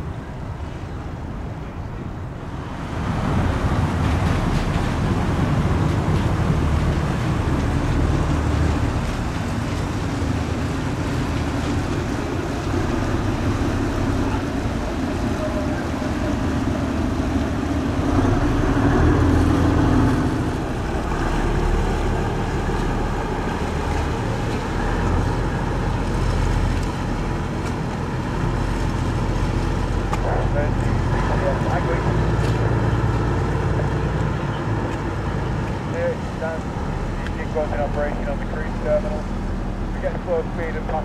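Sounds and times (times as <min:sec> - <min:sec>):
low outdoor rumble: 0:00.0 - 0:41.0.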